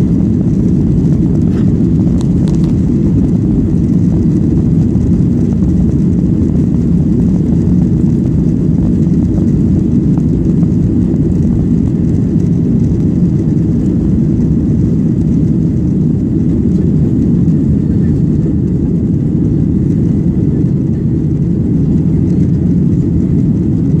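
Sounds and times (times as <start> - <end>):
airplane engines rumbling: 0.0 - 24.0.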